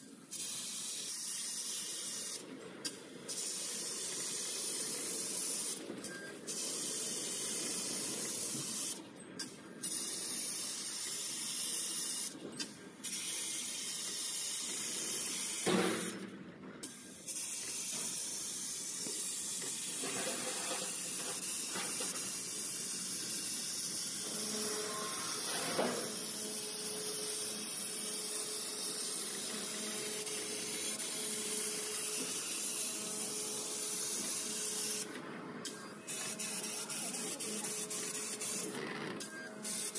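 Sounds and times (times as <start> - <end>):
laser gas jet hissing: 0.3 - 2.4, 3.3 - 5.8, 6.5 - 12.4, 13.0 - 16.2, 16.8 - 38.7, 39.6 - 39.9.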